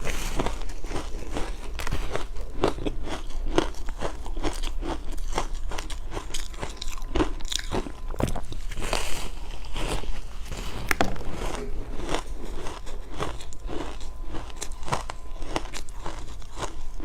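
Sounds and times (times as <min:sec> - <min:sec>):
ice crunching between teeth: 0:00.0 - 0:17.0.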